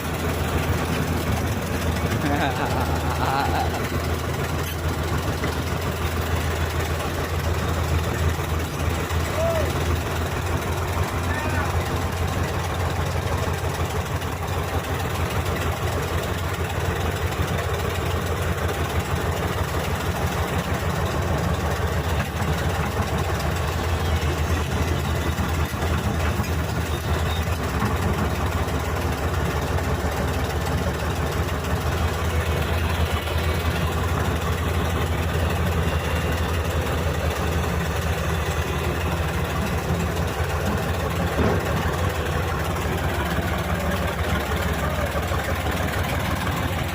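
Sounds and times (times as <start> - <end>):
heavy diesel engines rumbling: 0.0 - 46.9.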